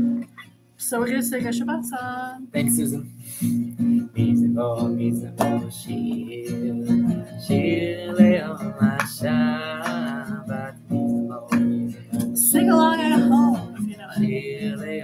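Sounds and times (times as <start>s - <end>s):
acoustic guitar strumming: 0.0s - 15.0s
person singing: 2.4s - 15.0s.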